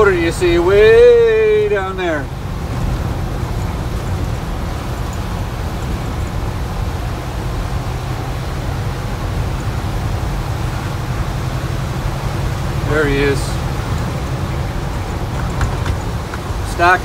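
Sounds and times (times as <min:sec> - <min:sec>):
diesel engine drone: 0:00.0 - 0:17.0
road noise rumble: 0:00.0 - 0:17.0.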